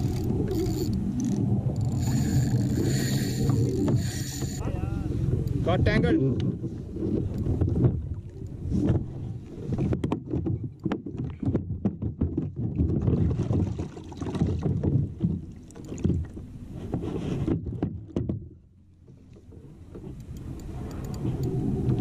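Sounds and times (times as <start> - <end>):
wind buffeting microphone: 0.0 - 18.5, 19.8 - 22.0
water slapping against kayak hull: 3.6 - 22.0.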